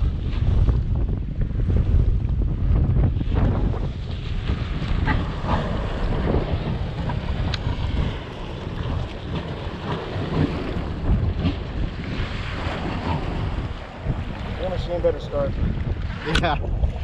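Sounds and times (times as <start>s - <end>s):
jet ski engine running: 0.0s - 17.0s
wind buffeting microphone: 0.0s - 17.0s.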